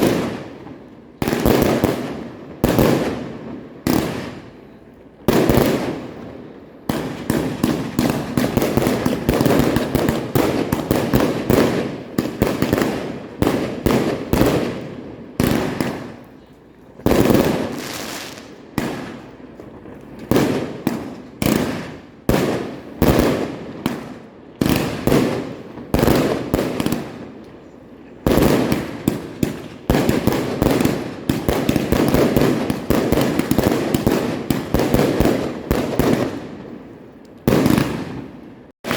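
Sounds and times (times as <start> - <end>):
fireworks crackling: 0.0 - 4.6, 5.2 - 27.6, 28.2 - 38.9
fireworks bangs: 0.0 - 16.4, 17.0 - 38.9.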